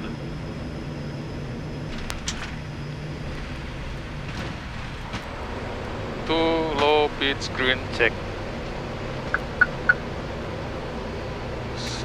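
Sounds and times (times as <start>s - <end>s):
propeller engines droning: 0.0s - 12.0s.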